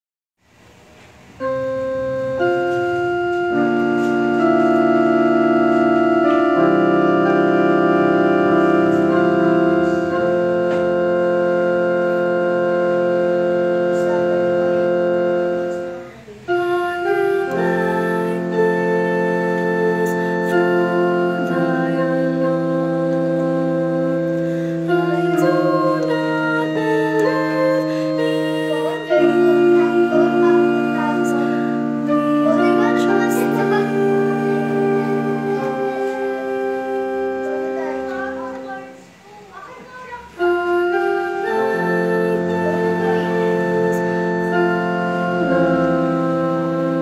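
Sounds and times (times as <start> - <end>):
electronic keyboard chords: 0.5 - 47.0.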